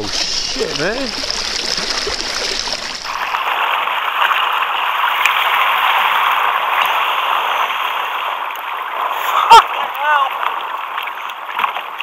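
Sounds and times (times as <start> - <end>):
water rushing against kayak: 0.0 - 12.0.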